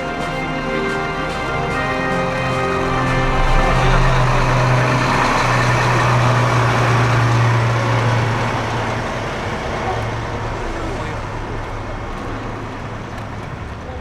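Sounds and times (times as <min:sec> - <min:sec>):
military vehicle engine passing: 0:00.0 - 0:14.0.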